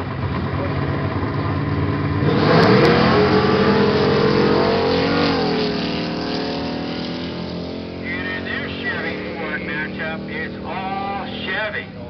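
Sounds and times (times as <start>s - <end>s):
drag racing engines revving: 0.0s - 12.0s.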